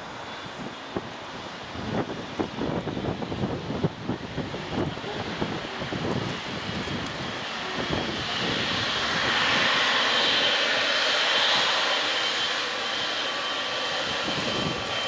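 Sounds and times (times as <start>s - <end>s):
jet engines whining while taxiing: 0.0s - 15.0s.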